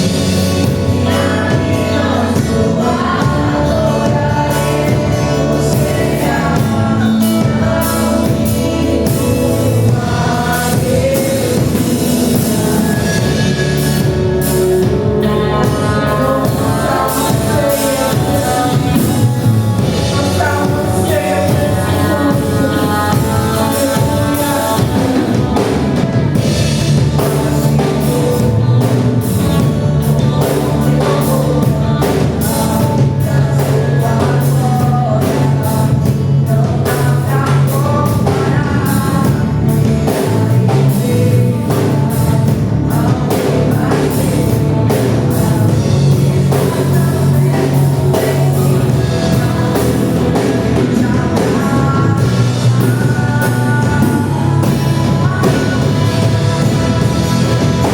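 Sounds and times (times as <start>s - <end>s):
person singing: 0.0s - 57.9s
rock band playing: 0.0s - 57.9s.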